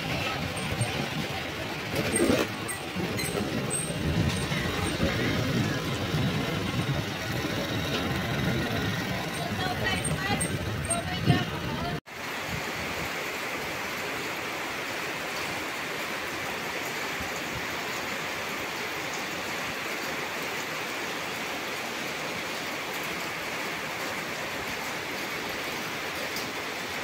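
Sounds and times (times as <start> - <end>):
heavy rain: 0.0 - 27.0.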